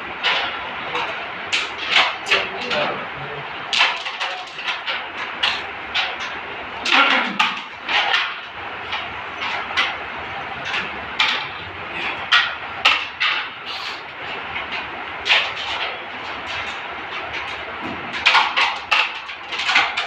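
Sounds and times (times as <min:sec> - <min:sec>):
carrom strikers clacking pieces: 0:00.2 - 0:20.0.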